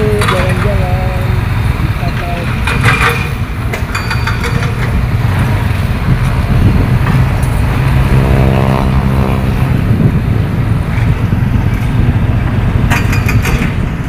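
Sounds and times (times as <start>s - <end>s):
heavy machinery diesel engines rumbling: 0.0s - 14.0s.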